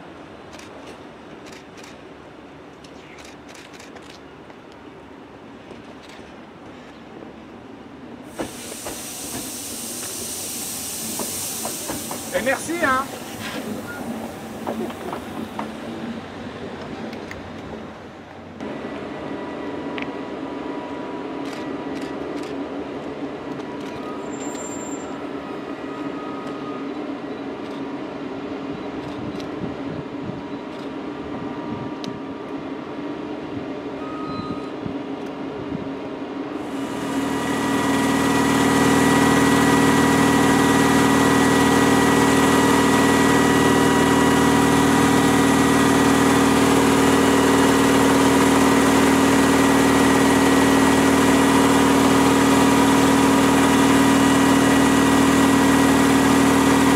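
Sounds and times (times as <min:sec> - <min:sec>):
electric locomotive humming: 0:03.5 - 0:56.9.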